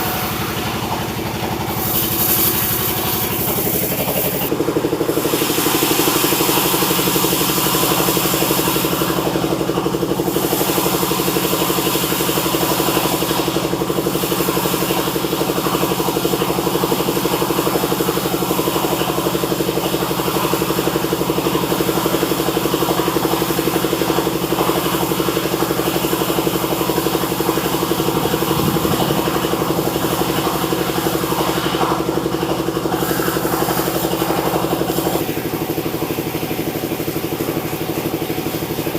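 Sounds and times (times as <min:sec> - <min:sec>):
sawmill machine hum: 0:00.0 - 0:20.3, 0:25.2 - 0:38.9.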